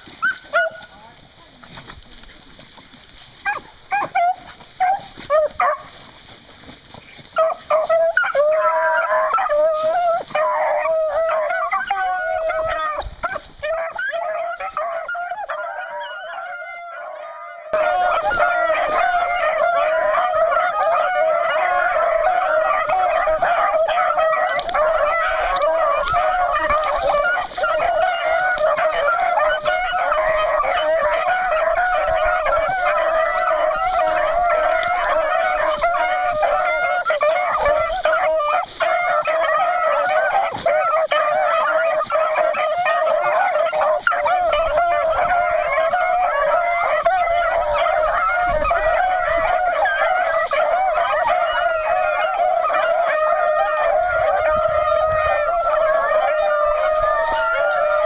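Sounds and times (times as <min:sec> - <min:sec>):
hounds baying: 0:00.0 - 0:58.0.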